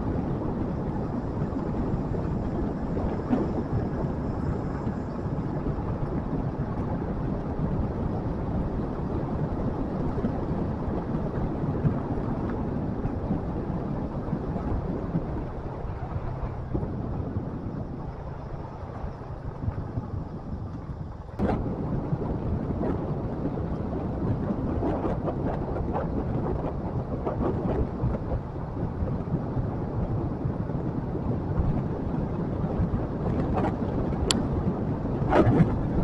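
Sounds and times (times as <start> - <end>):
motorcycle engine and road noise: 0.0 - 36.0
wind buffeting microphone: 0.0 - 36.0.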